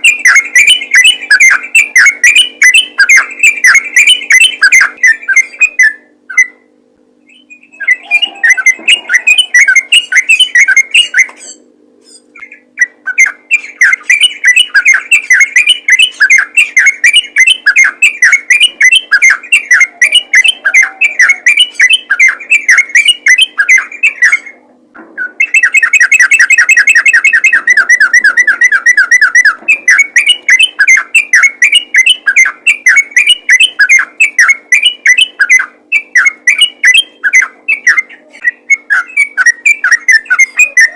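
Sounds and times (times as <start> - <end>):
bulbul singing chattering notes: 0.0 - 24.6, 25.2 - 40.9
faint steady hum: 0.0 - 40.9.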